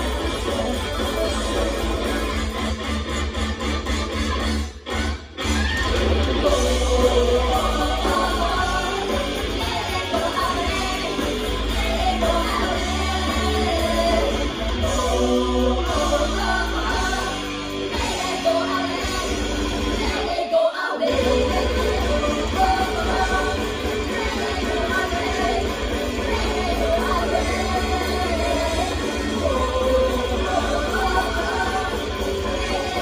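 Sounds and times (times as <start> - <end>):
backing music with heavy bass: 0.0 - 20.3, 21.1 - 33.0
women singing pop song: 6.4 - 33.0.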